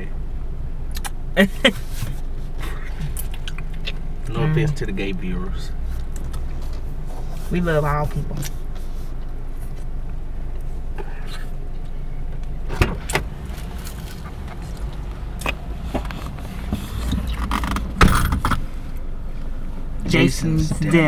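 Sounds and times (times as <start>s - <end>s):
car engine rumble: 0.0s - 21.0s.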